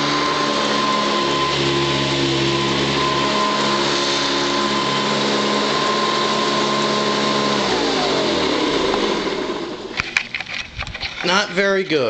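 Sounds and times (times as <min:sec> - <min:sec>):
vacuum cleaner motor whine: 0:00.0 - 0:10.2.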